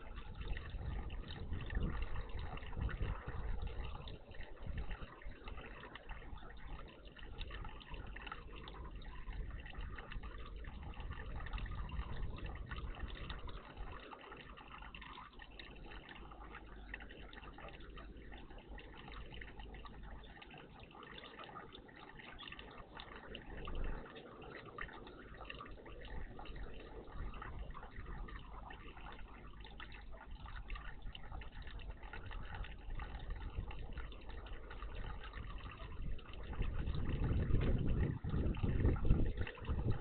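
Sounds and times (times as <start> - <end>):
water trickling and splashing: 0.0 - 40.0.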